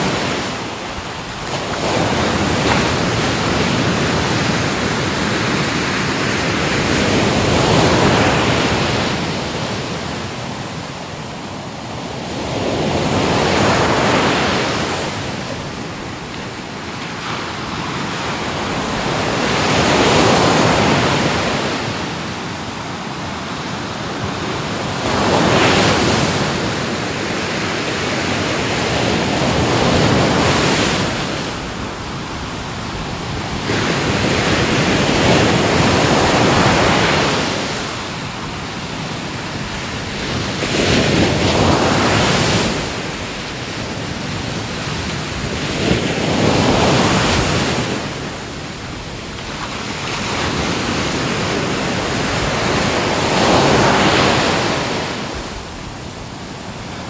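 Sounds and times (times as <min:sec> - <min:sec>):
ocean waves breaking on shore: 0:00.0 - 0:57.0
wind: 0:00.0 - 0:57.0.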